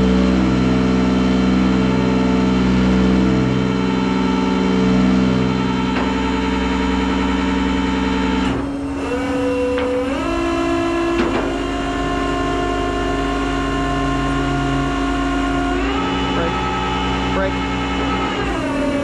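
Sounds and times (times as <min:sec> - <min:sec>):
tow truck engine running: 0:00.0 - 0:19.0
whining hydraulic tones: 0:00.0 - 0:19.0.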